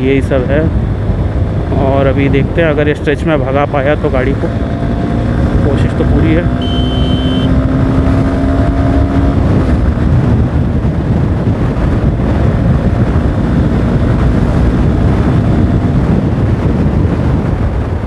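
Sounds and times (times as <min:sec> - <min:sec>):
motorcycle engine at speed: 0:00.0 - 0:18.0
wind rushing over microphone: 0:00.0 - 0:18.0.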